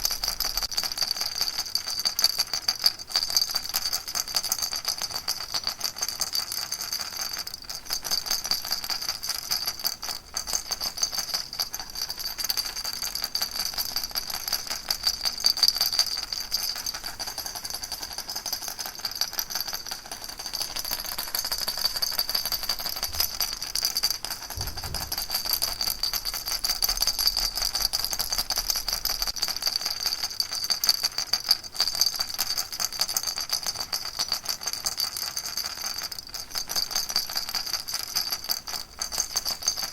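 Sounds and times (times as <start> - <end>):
baby rattle shaking: 0.0 - 39.9.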